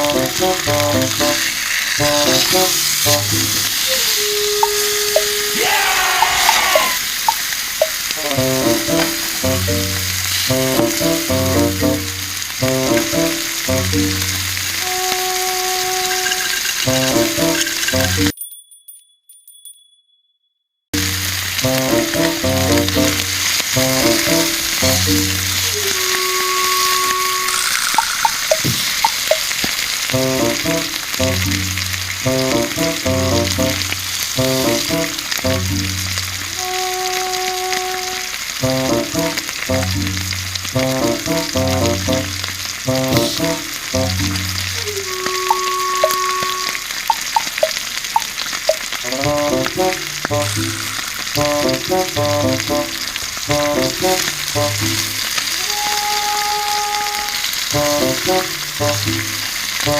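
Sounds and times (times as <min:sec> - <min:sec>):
soft background music: 0:00.0 - 0:05.5, 0:08.4 - 0:18.3, 0:21.0 - 0:27.8, 0:30.1 - 0:47.2, 0:49.1 - 0:59.9
campfire sizzling and crackling: 0:00.0 - 0:18.4, 0:21.0 - 0:59.9.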